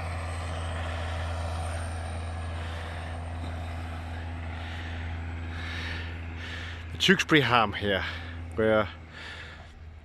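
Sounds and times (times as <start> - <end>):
tractor engine droning: 0.0 - 10.0.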